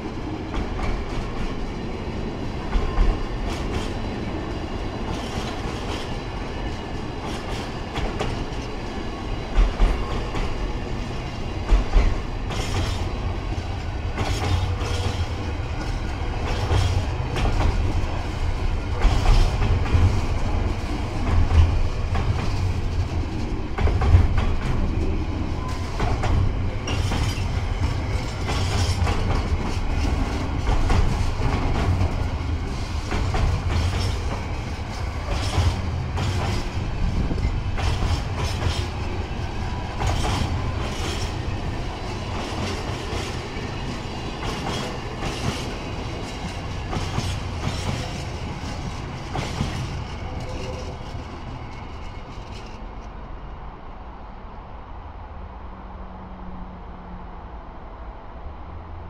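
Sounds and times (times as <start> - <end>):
wheels clacking over rail joints: 0.0 - 53.1
train wheels rumbling on rail: 0.0 - 59.0.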